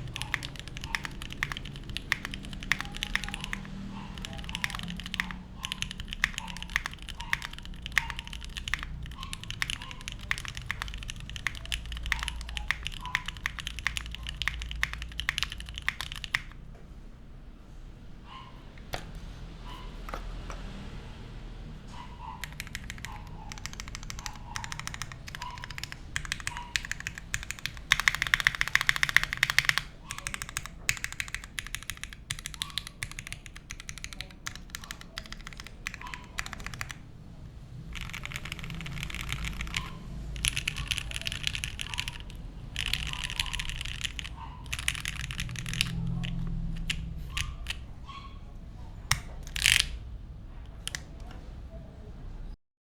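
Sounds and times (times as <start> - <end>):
mechanical keyboard typing: 0.0 - 16.7, 18.7 - 20.9, 21.8 - 51.4.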